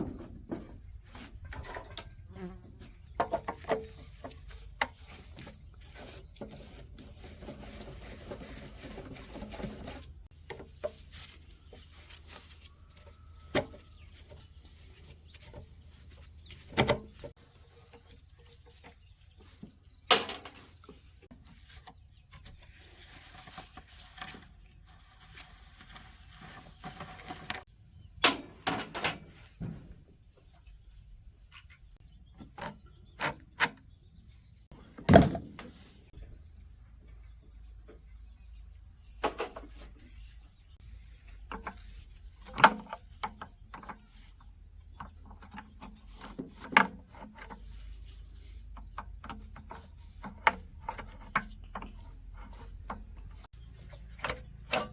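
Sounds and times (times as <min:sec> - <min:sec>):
knocks of tools and engine parts: 0:00.0 - 0:22.8, 0:26.6 - 0:30.5, 0:31.6 - 0:33.9, 0:34.7 - 0:36.4, 0:39.0 - 0:54.9
insects chirring: 0:00.0 - 0:54.9.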